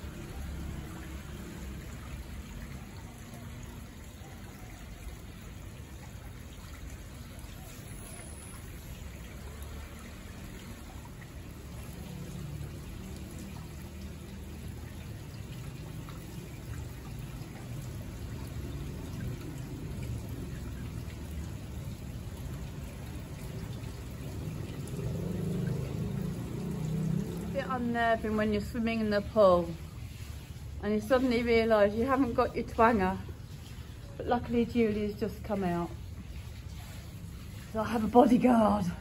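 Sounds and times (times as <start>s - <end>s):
water trickling and lapping: 0.0s - 39.0s.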